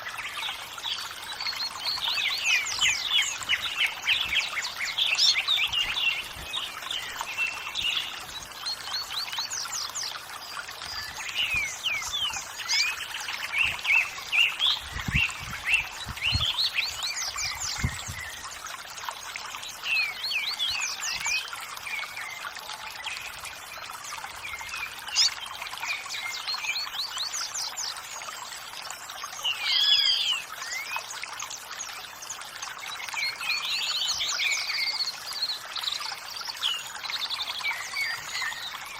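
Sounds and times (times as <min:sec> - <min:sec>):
running water rushing: 0:00.0 - 0:38.9
small birds chirping: 0:00.0 - 0:38.9.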